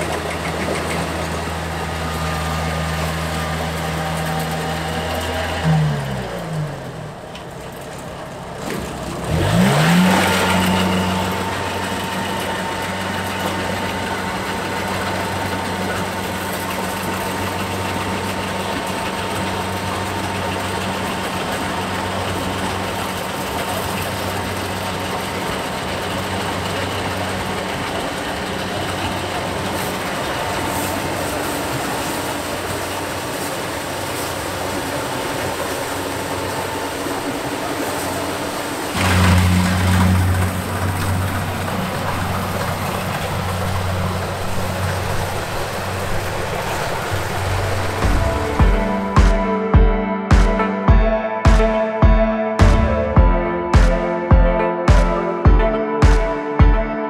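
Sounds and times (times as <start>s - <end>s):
combine harvester engine revving: 0.0s - 49.6s.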